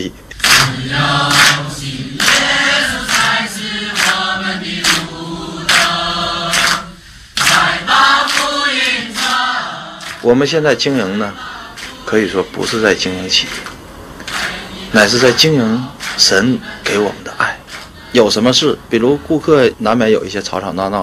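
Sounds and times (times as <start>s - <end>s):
choir singing held notes: 0.3s - 18.9s.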